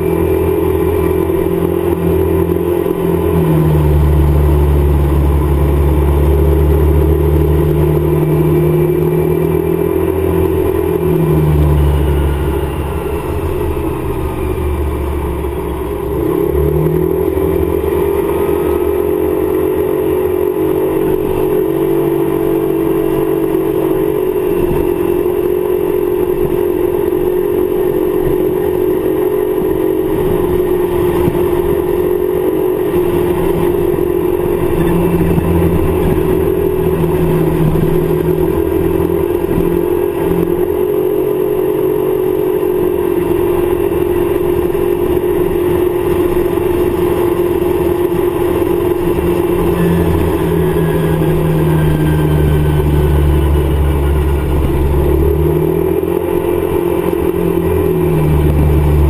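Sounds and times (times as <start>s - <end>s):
scooter engine running: 0.0s - 59.0s
wind and road noise: 0.0s - 59.0s.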